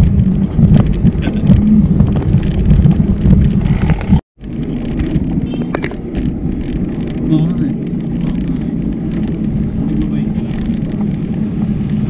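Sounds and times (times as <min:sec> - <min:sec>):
road rumble: 0:00.0 - 0:12.0
wind buffeting microphone: 0:00.0 - 0:12.0.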